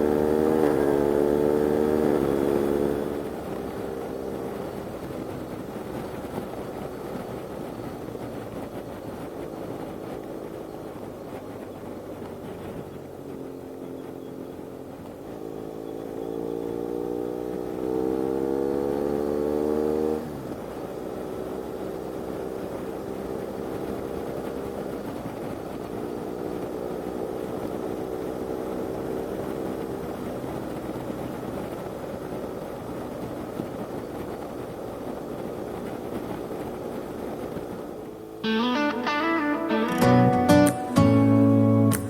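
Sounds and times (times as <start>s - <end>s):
motorcycle engine accelerating: 0.0s - 32.2s, 37.5s - 42.0s.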